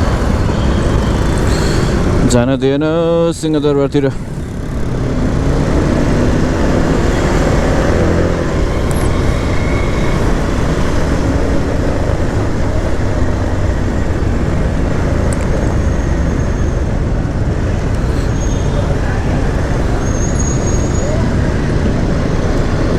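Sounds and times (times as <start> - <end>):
vehicle engine and road rumble: 0.0 - 22.9.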